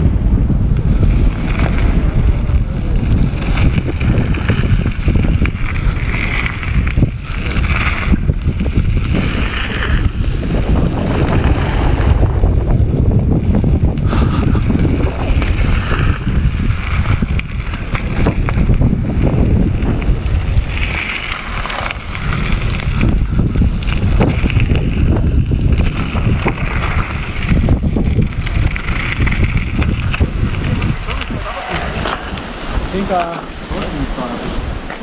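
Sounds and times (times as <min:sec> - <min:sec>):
bike clattering over bumps: 0:00.0 - 0:35.0
wind buffeting microphone: 0:00.0 - 0:35.0
tyres rolling over gravel: 0:00.6 - 0:35.0.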